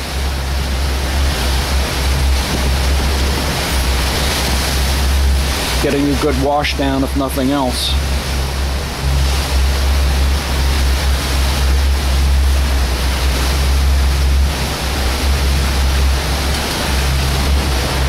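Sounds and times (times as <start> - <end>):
boat engine droning: 0.0 - 18.0
waves breaking: 0.0 - 18.0.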